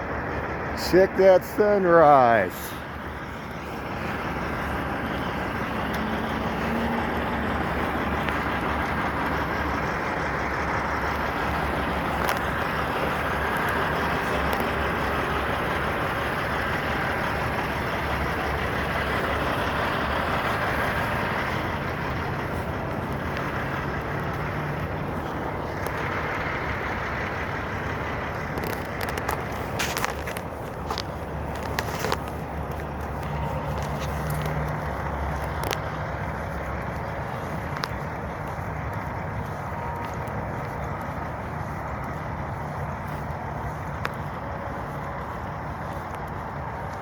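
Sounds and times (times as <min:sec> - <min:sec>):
road traffic passing: 0:00.0 - 0:47.0
truck engine hum: 0:00.0 - 0:47.0.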